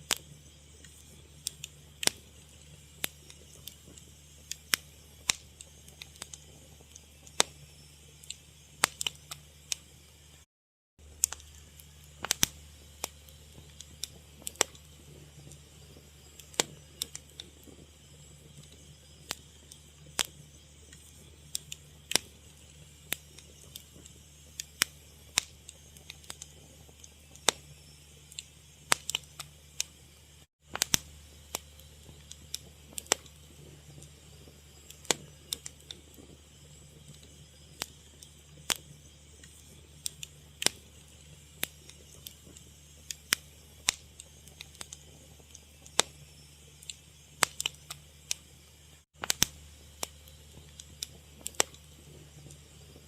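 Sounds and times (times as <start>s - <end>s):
wood fire crackling: 0.0s - 10.4s, 11.0s - 53.0s.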